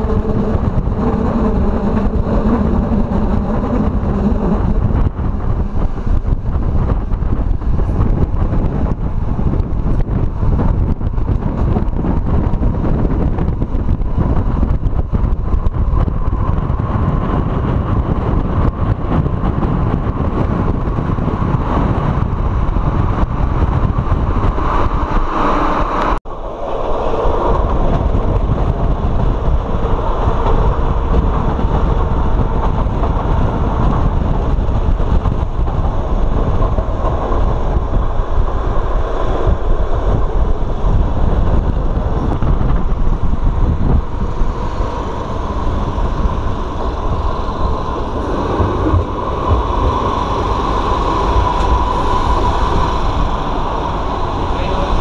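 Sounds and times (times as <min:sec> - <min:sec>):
wheels rumbling on rail: 0:00.0 - 0:55.0
wind across microphone: 0:00.0 - 0:55.0.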